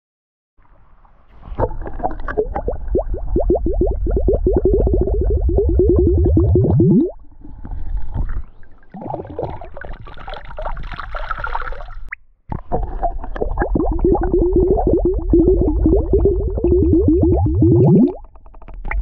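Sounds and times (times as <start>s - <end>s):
flask glugging underwater: 1.4s - 19.0s.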